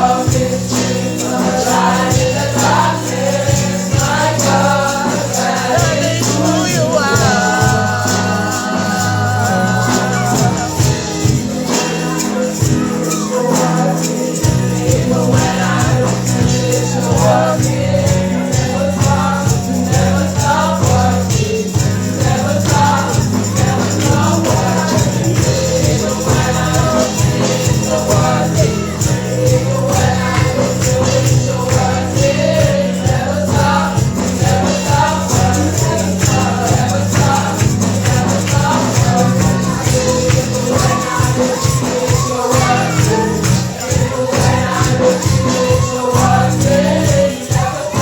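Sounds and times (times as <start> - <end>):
bass line: 0.0 - 13.2, 14.4 - 48.0
tambourine shaking: 0.0 - 48.0
voices singing gospel: 0.0 - 48.0.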